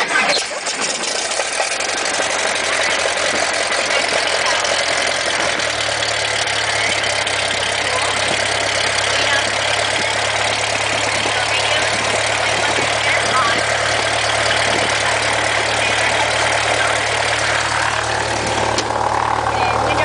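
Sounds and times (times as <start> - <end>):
airplane engine idling: 0.0 - 20.0
steady low drone: 0.8 - 20.0.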